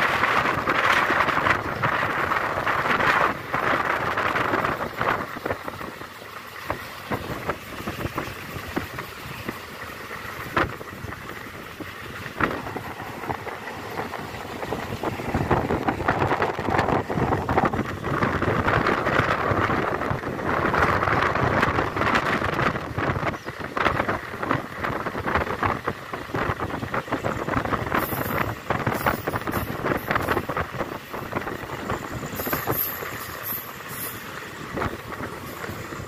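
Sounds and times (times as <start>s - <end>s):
train rattling with clicks: 0.0s - 36.0s
wind buffeting microphone: 0.0s - 36.0s.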